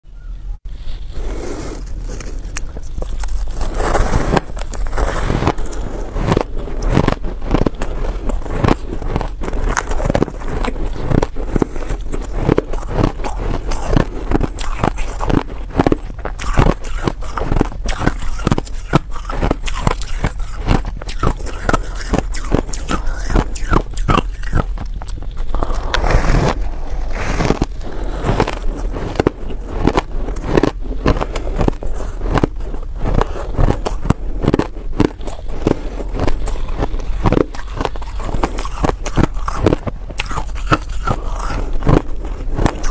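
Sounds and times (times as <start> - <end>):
crunching and chewing ice: 1.2 - 42.9.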